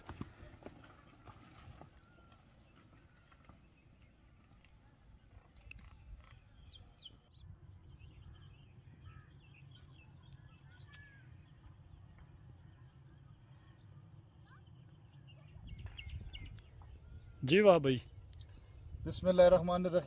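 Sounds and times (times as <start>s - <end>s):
birds chirping: 0.9s - 20.0s.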